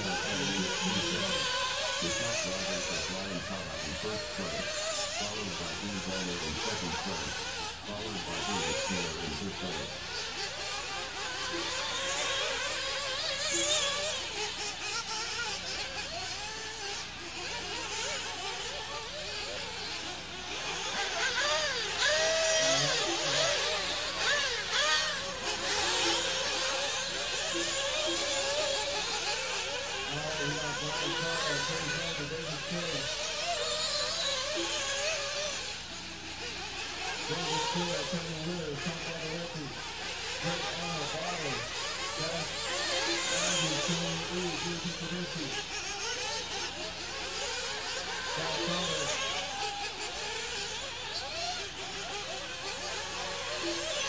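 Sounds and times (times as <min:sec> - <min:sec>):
model car engines whining: 0:00.0 - 0:54.0.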